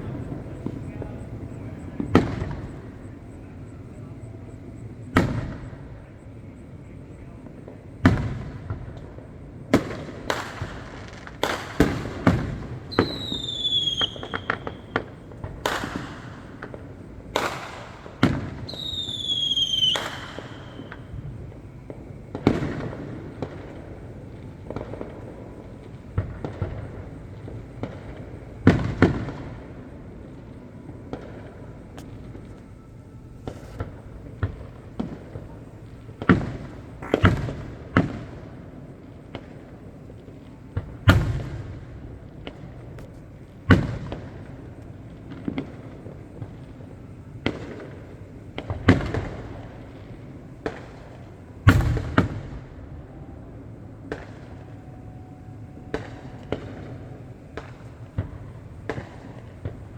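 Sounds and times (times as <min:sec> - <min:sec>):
descending firework whistle: 0:00.0 - 0:59.9
fireworks bangs: 0:00.0 - 0:59.9.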